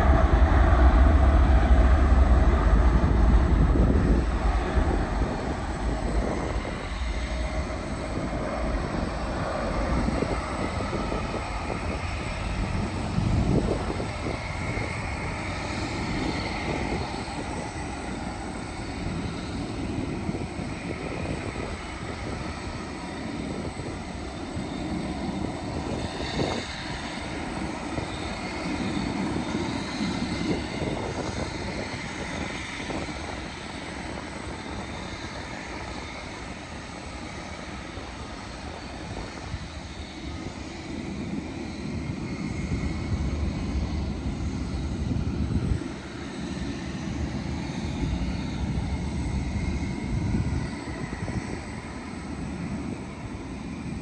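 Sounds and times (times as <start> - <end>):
jet engines rushing with whine: 0.0 - 54.0.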